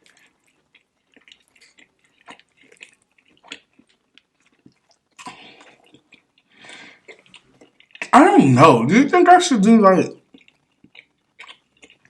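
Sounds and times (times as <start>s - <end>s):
chewing and lip-smacking: 0.0s - 8.2s, 10.2s - 12.0s.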